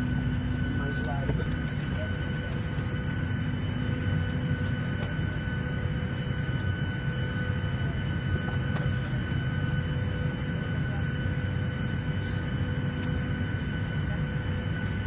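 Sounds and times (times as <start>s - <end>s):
airliner engine rumble: 0.0s - 15.0s.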